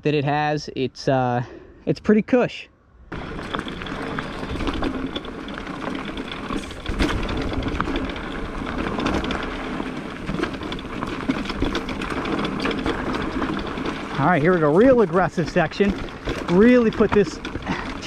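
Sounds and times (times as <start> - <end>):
bike rolling rumble: 3.1 - 18.0
tyres rattling on loose stones: 3.1 - 18.0.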